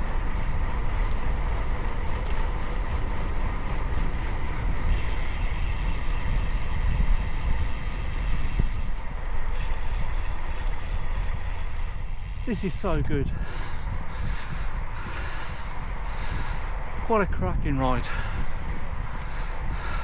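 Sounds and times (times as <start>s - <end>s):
bike tyre and road noise: 0.0s - 20.0s
wind buffeting microphone: 0.0s - 20.0s.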